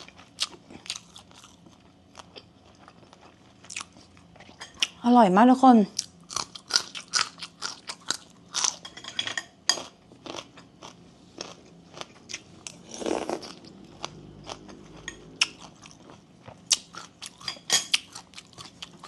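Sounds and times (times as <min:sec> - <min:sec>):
person chewing and crunching food: 0:00.0 - 0:05.0, 0:06.0 - 0:08.9, 0:09.7 - 0:19.0.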